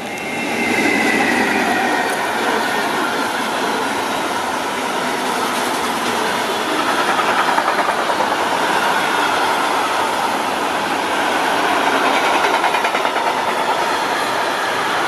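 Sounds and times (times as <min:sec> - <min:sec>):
freight train wheels rolling: 0:00.0 - 0:15.0.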